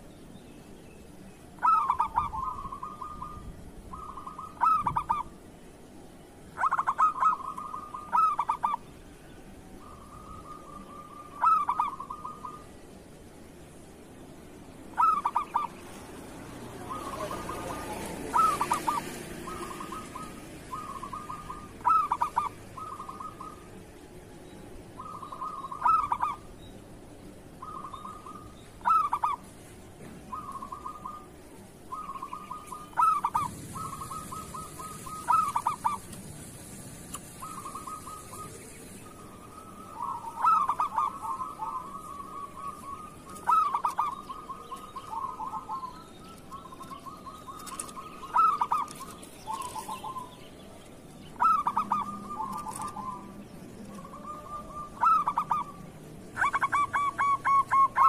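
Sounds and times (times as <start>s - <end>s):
dove cooing: 1.6s - 5.4s, 6.6s - 8.8s, 9.8s - 12.7s, 15.0s - 23.8s, 25.0s - 26.5s, 27.6s - 29.5s, 30.1s - 50.4s, 51.4s - 58.0s.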